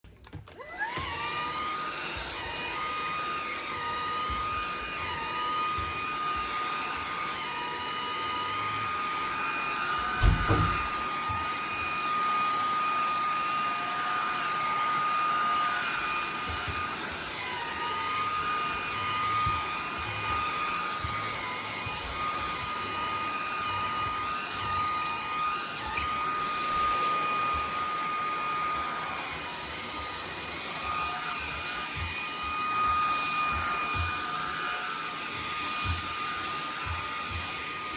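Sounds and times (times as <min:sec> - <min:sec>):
vacuum cleaner whining: 0:00.0 - 0:37.9.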